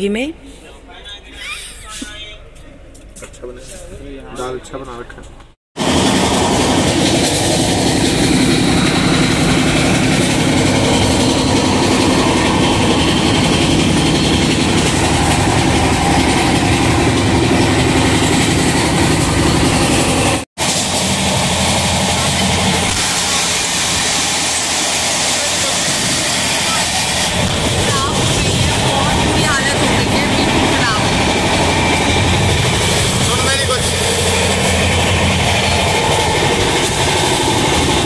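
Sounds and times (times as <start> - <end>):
train wheels rumbling on rails: 1.9 - 38.0.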